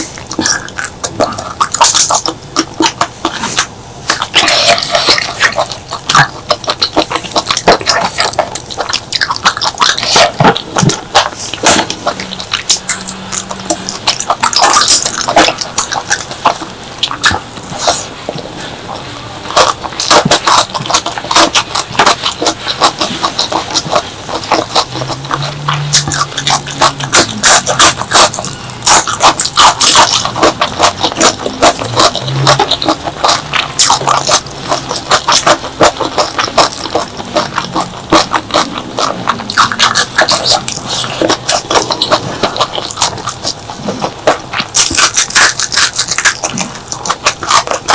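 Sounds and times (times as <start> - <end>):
wet chewing and lip smacking: 0.0 - 47.9.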